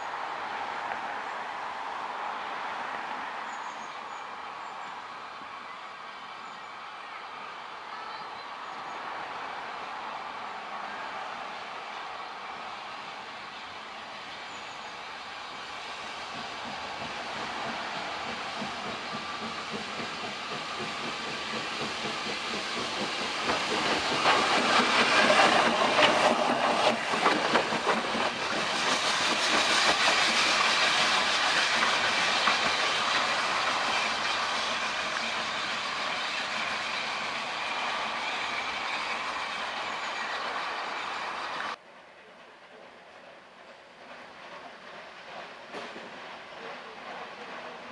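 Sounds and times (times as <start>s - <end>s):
train passing: 0.0s - 47.9s.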